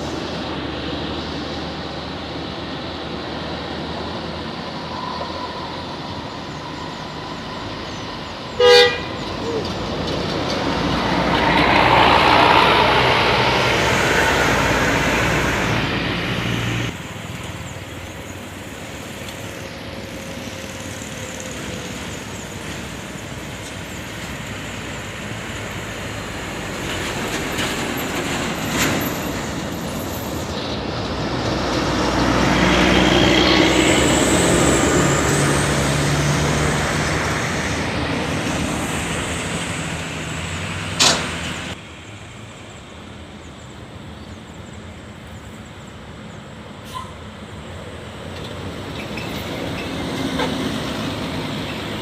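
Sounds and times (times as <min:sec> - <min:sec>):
heavy vehicles passing: 0:00.0 - 0:52.0.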